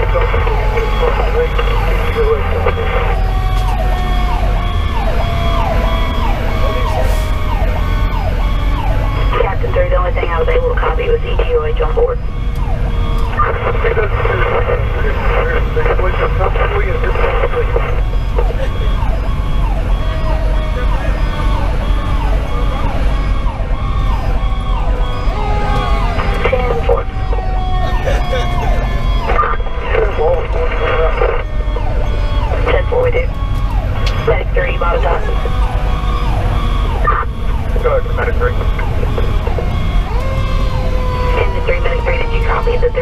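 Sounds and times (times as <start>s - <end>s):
diesel engine running: 0.0s - 43.0s
lower siren tone falling in pitch: 0.0s - 43.0s
siren yelping fast: 0.0s - 43.0s.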